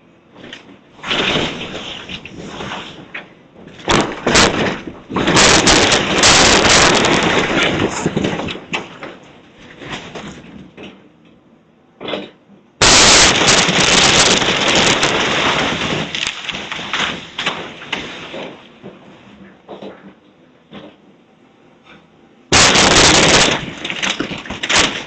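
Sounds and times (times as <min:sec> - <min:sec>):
demolition debris crashing: 0:00.4 - 0:11.0, 0:12.8 - 0:20.0, 0:22.5 - 0:25.0.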